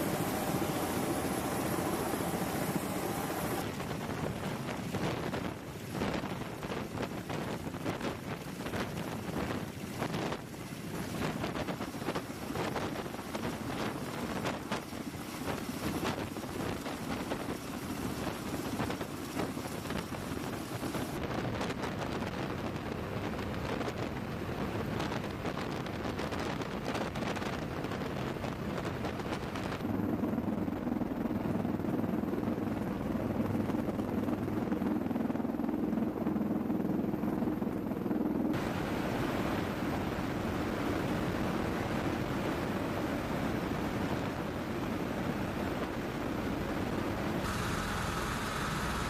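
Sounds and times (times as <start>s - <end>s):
wind on microphone: 0.0s - 48.8s
aircraft engines and rotors running: 0.0s - 49.0s.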